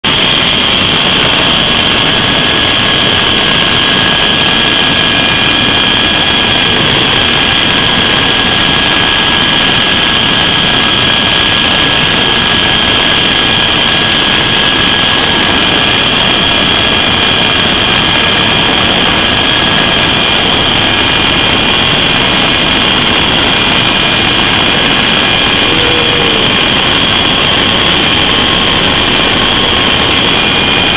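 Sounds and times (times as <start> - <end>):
helicopter turbine whine: 0.0 - 30.9
rotor and airflow rush: 0.0 - 30.9.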